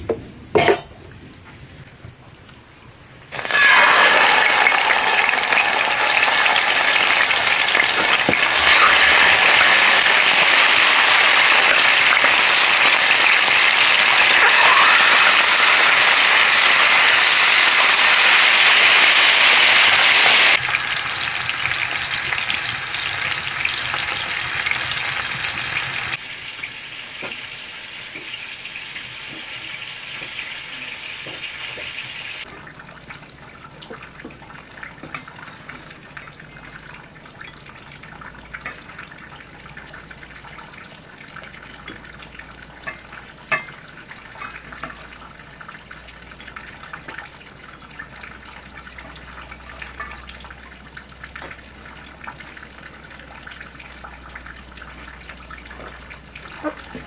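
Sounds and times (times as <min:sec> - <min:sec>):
food sizzling in hot oil: 0:03.3 - 0:32.5, 0:33.4 - 0:57.0.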